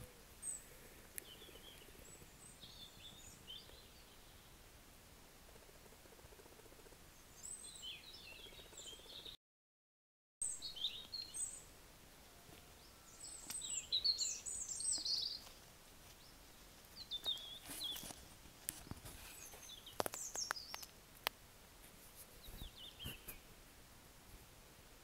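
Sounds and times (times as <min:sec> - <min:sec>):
small birds chirping: 0:00.0 - 0:04.7, 0:05.4 - 0:09.4, 0:10.4 - 0:11.8, 0:12.6 - 0:21.4, 0:22.2 - 0:23.6
faint outdoor background noise: 0:00.0 - 0:09.4, 0:10.4 - 0:25.0.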